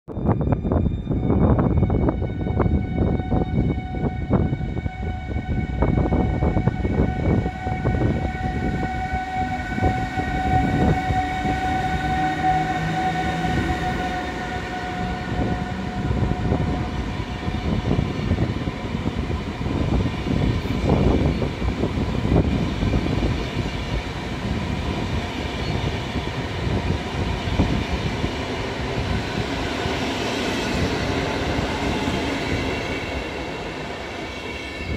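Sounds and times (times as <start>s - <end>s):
electrical whine of locomotive: 0.1s - 34.9s
train wheels rumbling: 0.3s - 34.9s.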